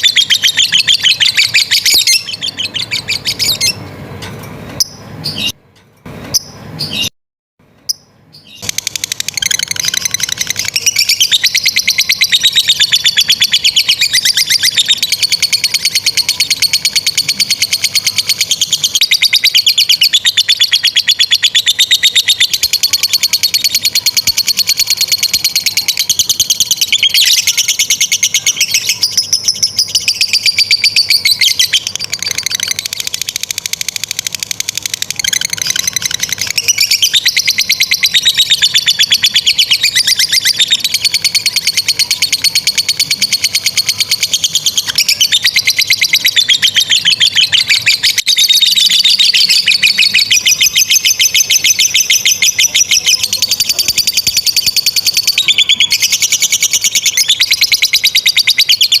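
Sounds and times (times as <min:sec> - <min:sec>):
bird chattering trills: 0:00.0 - 0:03.9, 0:07.9 - 0:59.0.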